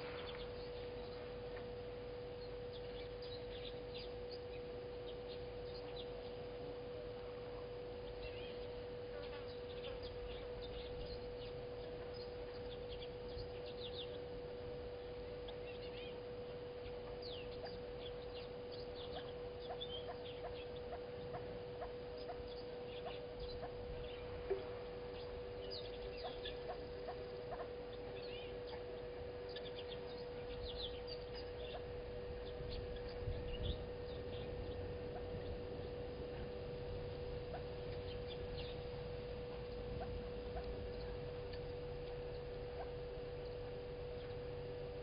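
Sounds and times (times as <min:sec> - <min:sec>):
birds chirping and whistling: 0:00.0 - 0:06.6, 0:08.0 - 0:14.3, 0:15.0 - 0:45.0
faint steady hum: 0:00.0 - 0:45.0.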